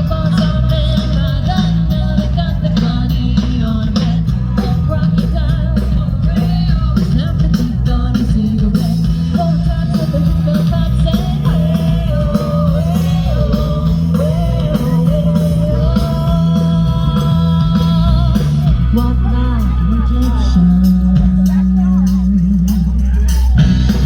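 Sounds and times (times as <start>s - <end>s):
lead singer singing: 0.0s - 24.0s
live rock band playing: 0.0s - 24.0s.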